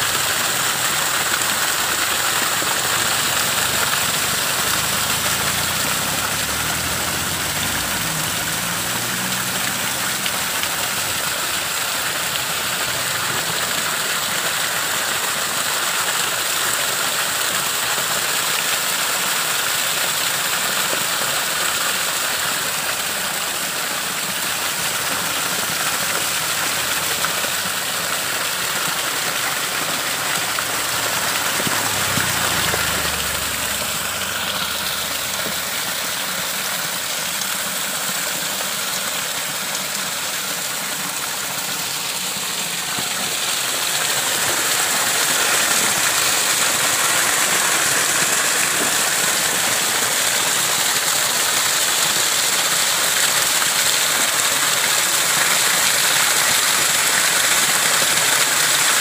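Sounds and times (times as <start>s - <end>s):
small waterfall splashing: 0.0s - 59.0s.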